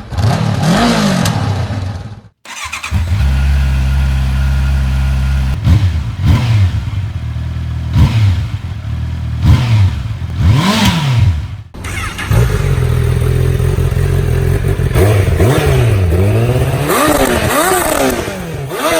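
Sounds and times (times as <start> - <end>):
motorcycle engine idling: 2.5 - 10.5, 11.4 - 18.9
motorcycle throttle blips: 2.5 - 18.9.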